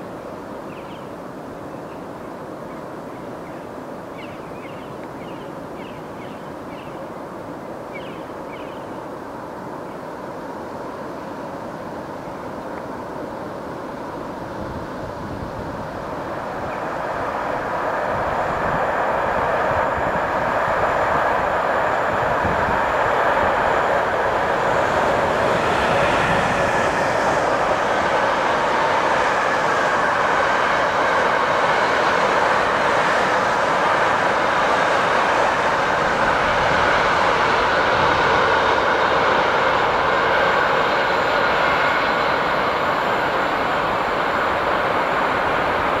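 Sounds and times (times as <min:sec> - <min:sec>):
train wheels rushing on rails: 0:00.0 - 0:46.0.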